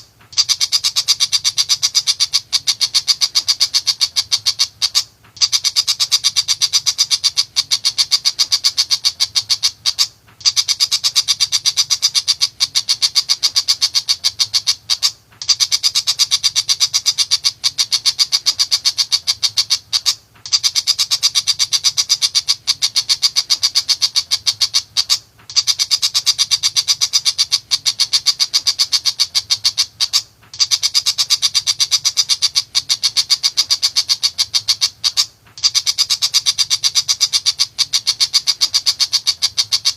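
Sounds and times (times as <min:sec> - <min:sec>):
bird harsh chattering call: 0:00.0 - 0:39.9.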